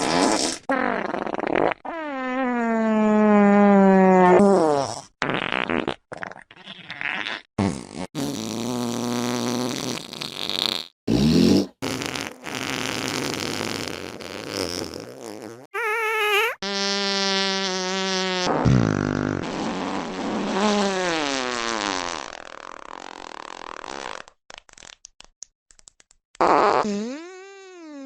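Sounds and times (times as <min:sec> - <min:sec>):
fart sounds: 0:00.0 - 0:25.0, 0:26.4 - 0:28.0.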